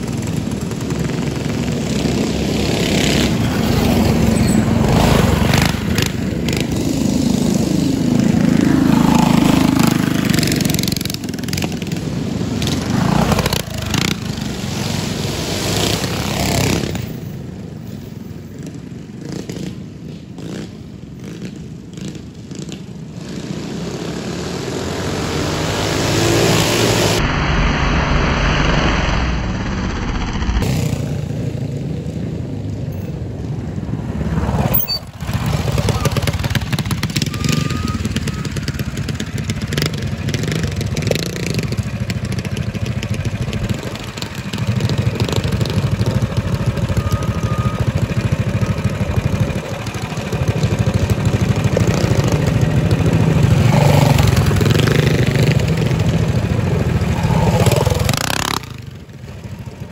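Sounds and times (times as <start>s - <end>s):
mini bike engines revving: 0.0s - 27.2s, 30.0s - 33.0s, 33.7s - 59.9s.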